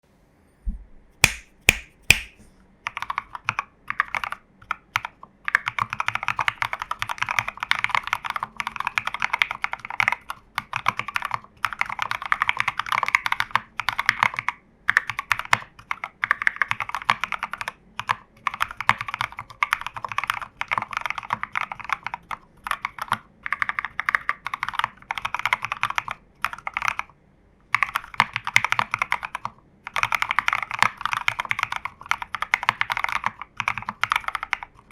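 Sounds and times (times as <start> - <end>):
mechanical keyboard typing: 1.2 - 27.1, 27.7 - 34.9.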